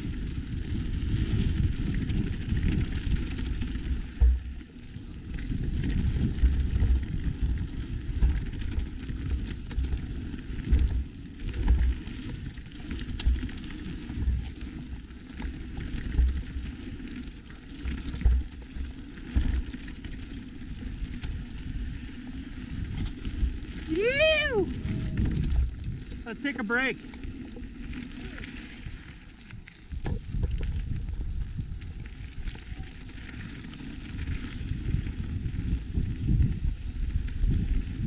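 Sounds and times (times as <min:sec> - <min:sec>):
bike tyres on gravel trail: 0:00.0 - 0:38.0
wind rumble on microphone: 0:00.0 - 0:38.0.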